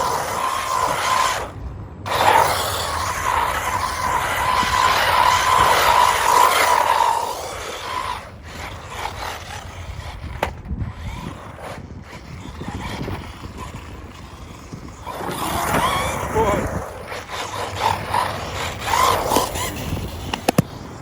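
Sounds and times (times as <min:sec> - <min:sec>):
electric motor whining: 0:00.0 - 0:21.0
tyres rushing on ground: 0:00.0 - 0:21.0.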